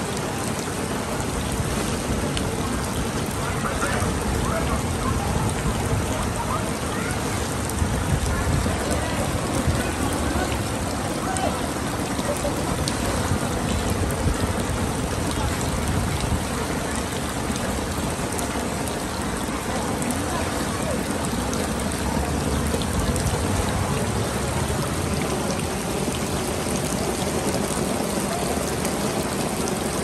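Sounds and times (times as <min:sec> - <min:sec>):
heavy rain on standing water: 0:00.0 - 0:30.0.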